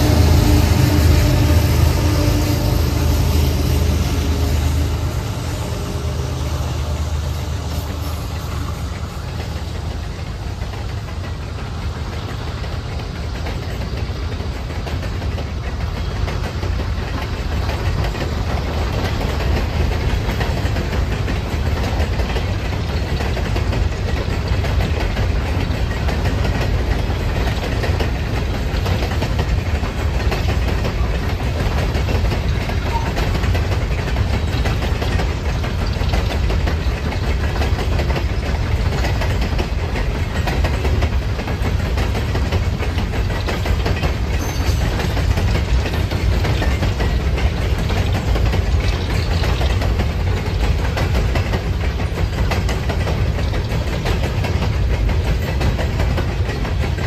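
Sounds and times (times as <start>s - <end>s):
diesel locomotive engine passing: 0.0s - 57.0s
train cars rolling on rails: 0.0s - 57.0s.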